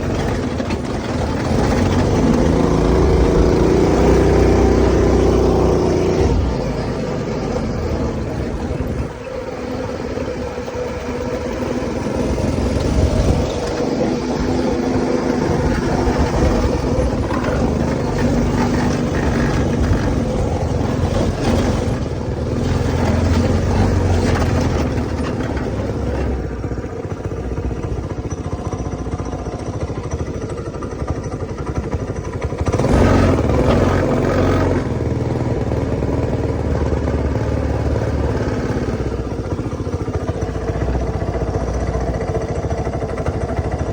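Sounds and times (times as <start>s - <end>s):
go-kart engine running: 0.0s - 43.9s.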